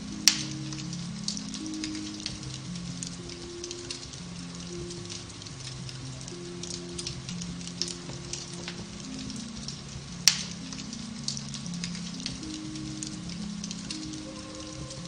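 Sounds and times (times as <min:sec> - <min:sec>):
soft piano music: 0:00.0 - 0:15.0
wood fire crackling: 0:00.0 - 0:15.0.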